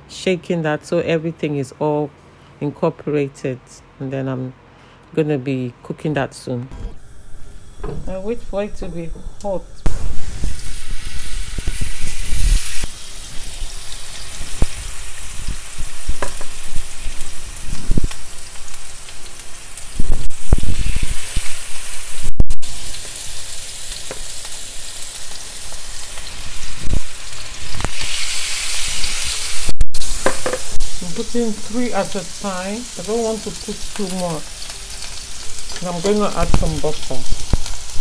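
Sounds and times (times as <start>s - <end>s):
meat sizzling in a frying pan: 7.0s - 38.0s.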